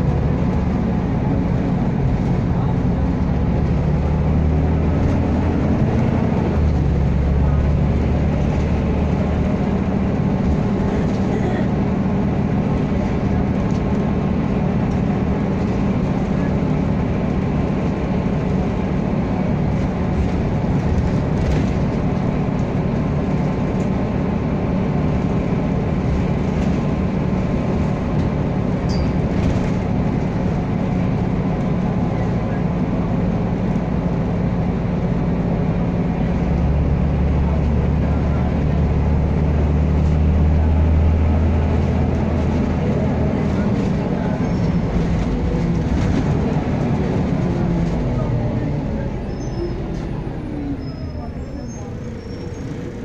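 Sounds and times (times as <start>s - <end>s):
bus diesel engine drone: 0.0s - 53.0s
road noise: 0.0s - 53.0s.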